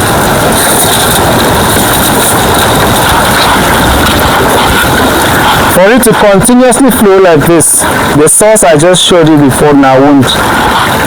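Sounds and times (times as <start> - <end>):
water rushing into a pond: 0.0 - 11.0.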